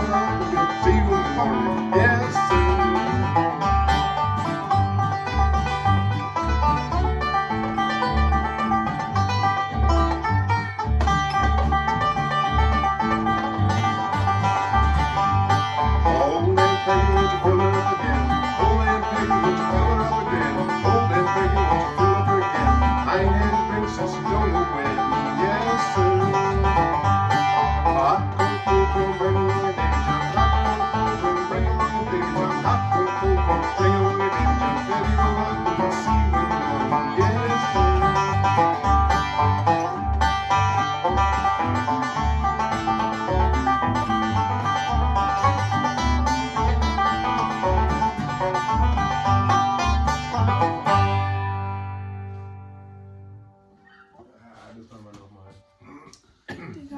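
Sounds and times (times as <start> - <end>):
steady bass beat: 0.0 - 51.7
picked banjo: 0.0 - 55.8
guitar: 0.0 - 56.9.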